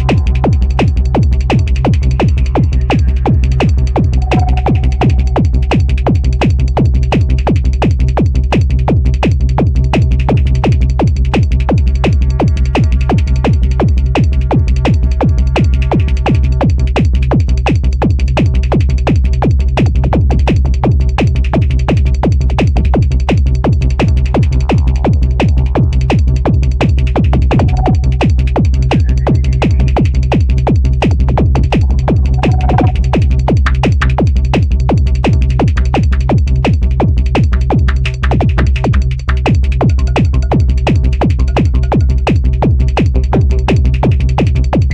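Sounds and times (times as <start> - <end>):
drum machine beat: 0.0 - 44.9
sustained bass and synth tones: 0.0 - 44.9.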